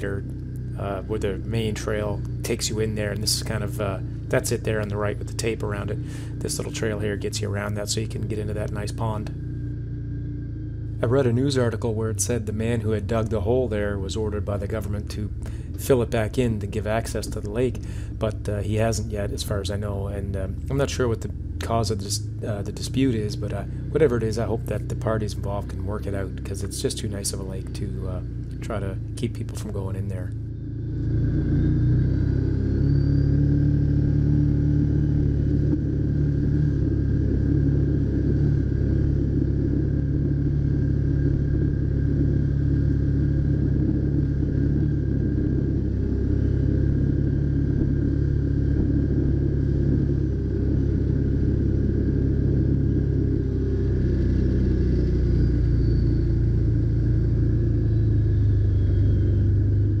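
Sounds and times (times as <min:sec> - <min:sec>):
vehicle engine droning: 0:00.0 - 1:00.0.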